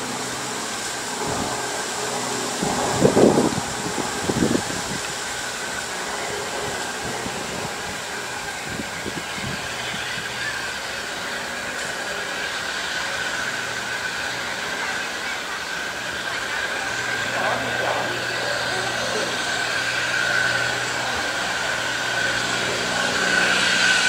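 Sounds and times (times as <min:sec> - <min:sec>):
distant steam locomotive: 0:00.0 - 0:24.0.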